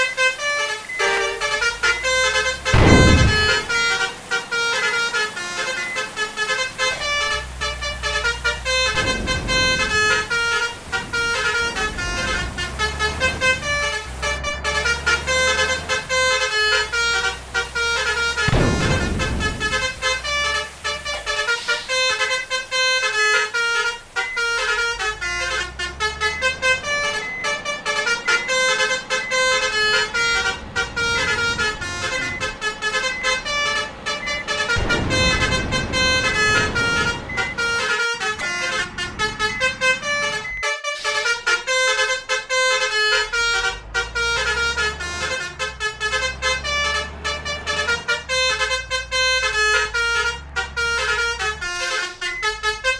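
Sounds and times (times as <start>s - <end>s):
musical bus horns: 0.0s - 52.9s.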